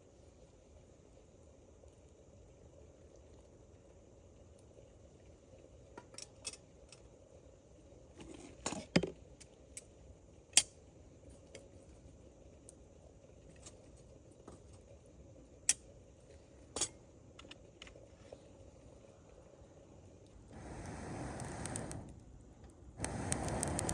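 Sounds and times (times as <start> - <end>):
faint background noise: 0.0 - 23.9.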